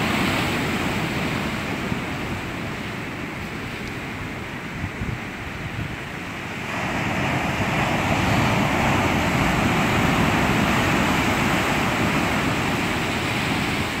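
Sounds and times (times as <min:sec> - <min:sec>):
waves breaking over rocks: 0:00.0 - 0:14.0.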